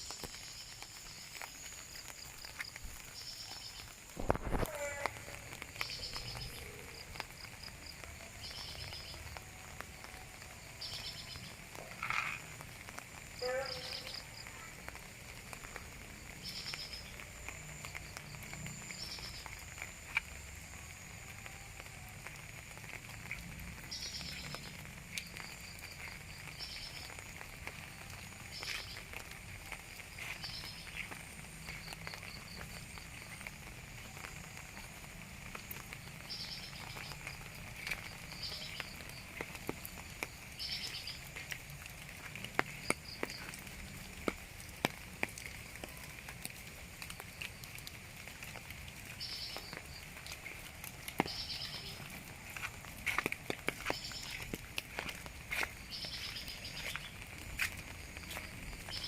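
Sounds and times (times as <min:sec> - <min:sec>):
frogs and insects calling: 0:00.0 - 0:59.0
rain falling: 0:00.0 - 0:59.0.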